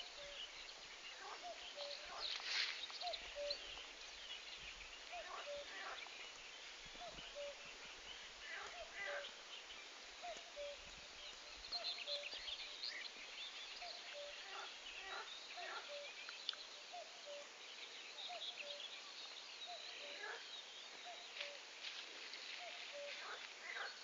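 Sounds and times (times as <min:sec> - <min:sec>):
birds chirping and twittering: 0:00.0 - 0:24.0.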